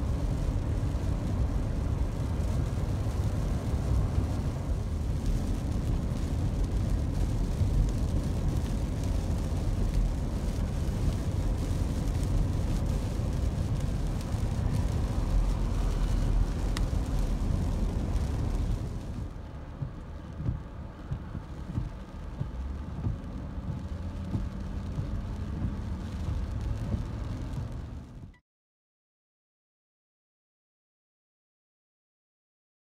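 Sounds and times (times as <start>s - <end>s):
tyres on wet pavement: 0.0s - 28.3s
low road rumble: 0.0s - 28.4s
rain: 0.0s - 28.4s.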